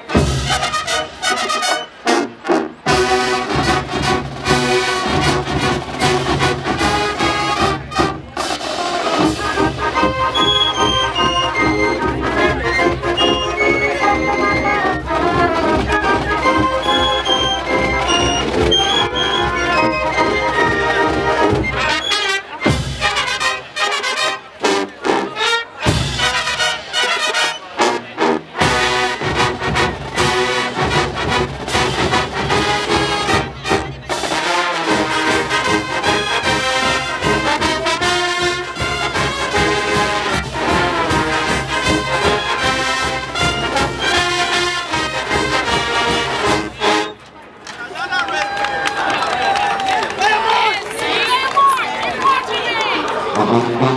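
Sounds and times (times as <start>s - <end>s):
marching band brass playing: 0.0s - 47.4s, 50.4s - 53.9s.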